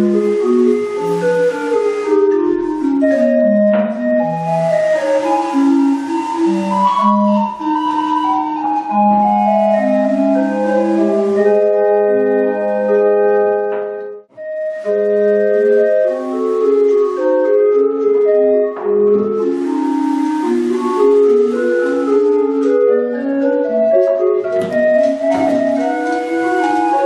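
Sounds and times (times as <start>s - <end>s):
wooden pipe organ playing: 0.0s - 27.0s.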